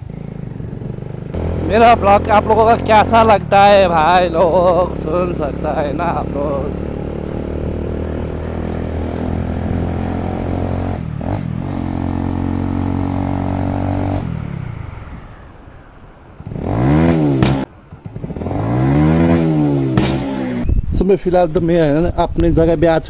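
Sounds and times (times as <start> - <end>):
motorcycle engine running: 0.0 - 20.7
motorcycle engine revving: 0.0 - 20.8.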